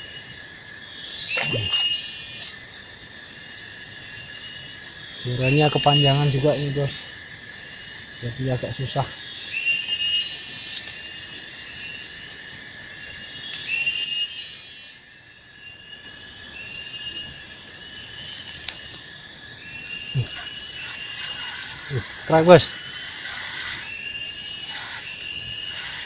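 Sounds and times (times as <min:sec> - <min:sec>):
short repeated insect call: 0:00.0 - 0:26.0
shrill insect drone: 0:00.0 - 0:26.0.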